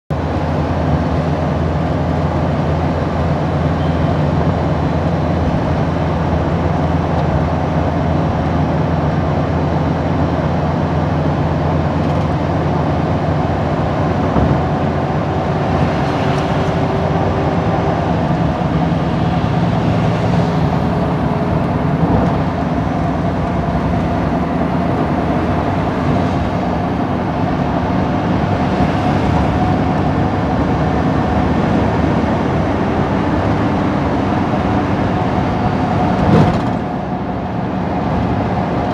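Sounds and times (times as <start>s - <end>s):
vehicle engine hum: 0.1s - 38.9s
rushing noise: 0.2s - 38.9s.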